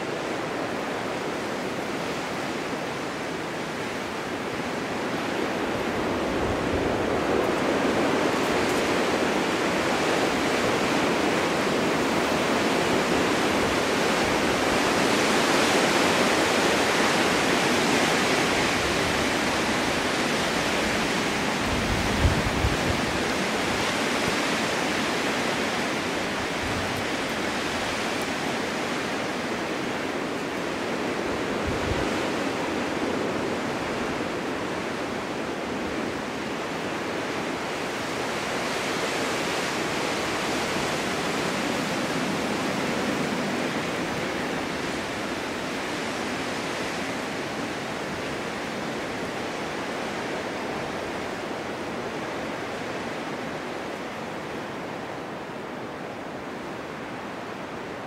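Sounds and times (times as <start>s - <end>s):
snowstorm wind rushing: 0.0s - 58.0s.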